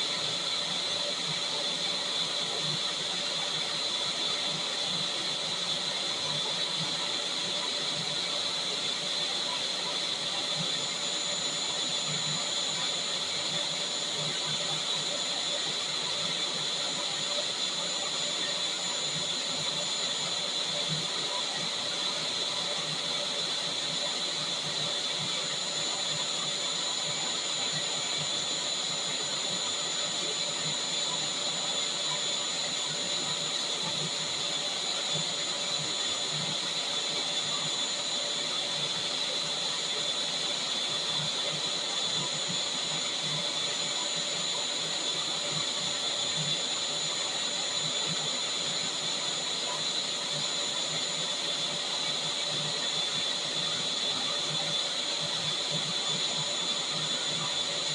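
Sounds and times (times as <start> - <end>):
vacuum cleaner motor running: 0.0 - 57.9.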